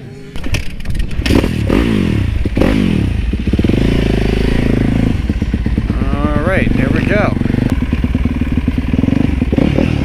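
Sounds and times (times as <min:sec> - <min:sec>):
dirt bike engine revving: 0:01.1 - 0:10.0.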